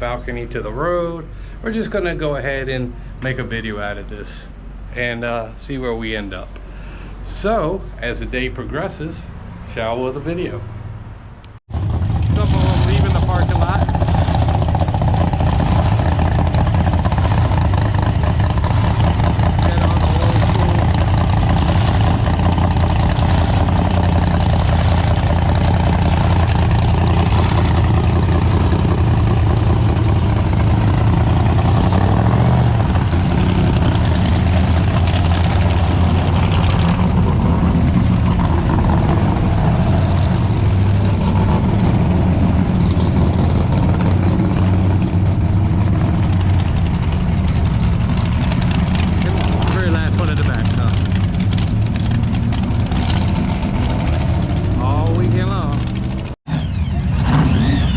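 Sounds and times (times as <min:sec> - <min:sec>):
car engines idling: 0:00.0 - 0:57.9.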